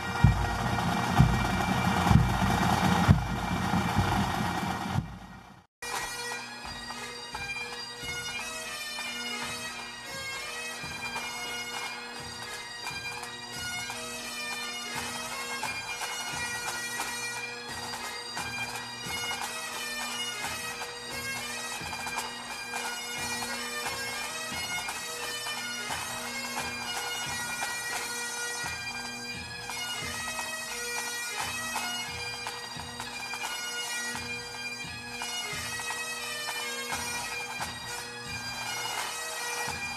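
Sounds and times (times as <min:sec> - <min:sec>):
bagpipe band playing a march: 0:00.0 - 0:39.9.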